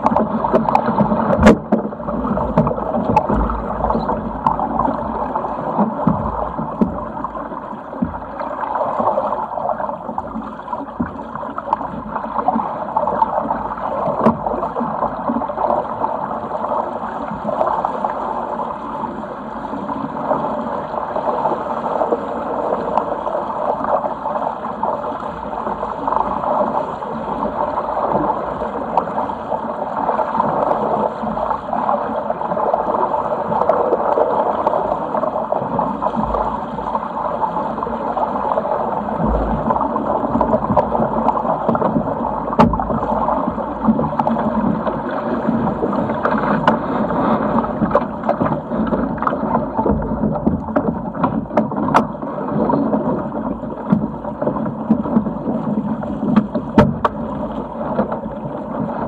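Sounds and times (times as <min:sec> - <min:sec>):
water rushing along boat hull: 0:00.0 - 0:59.0.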